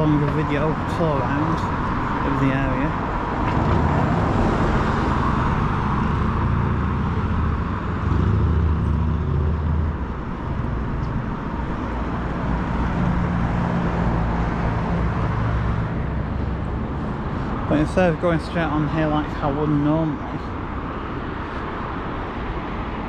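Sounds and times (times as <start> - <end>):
low engine hum: 0.0 - 23.0
motor vehicles running: 0.0 - 23.0.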